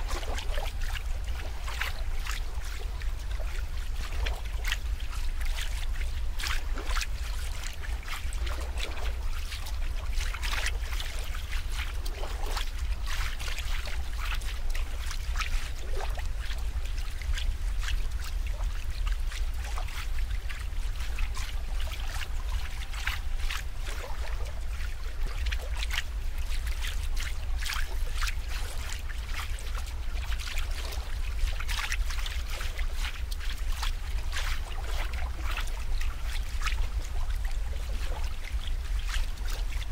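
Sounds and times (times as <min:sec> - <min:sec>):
steady low rumble: 0:00.0 - 0:39.9
water trickling and splashing: 0:00.0 - 0:39.9.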